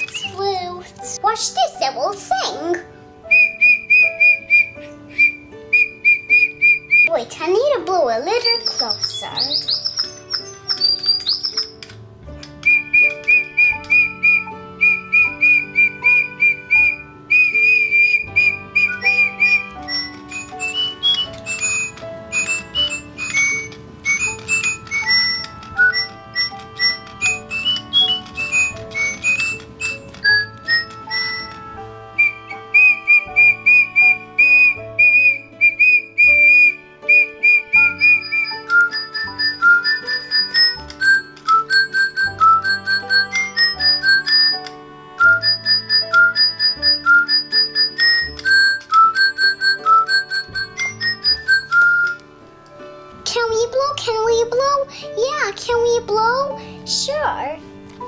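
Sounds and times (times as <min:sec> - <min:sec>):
toy bird whistle tweets: 0:00.0 - 0:00.5, 0:03.3 - 0:07.2, 0:08.3 - 0:52.2
background music: 0:00.0 - 0:58.0.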